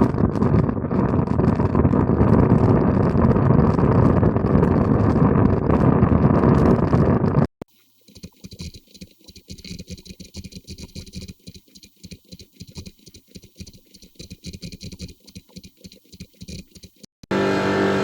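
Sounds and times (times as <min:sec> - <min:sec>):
mechanical clicks and rattles: 0:00.0 - 0:17.1.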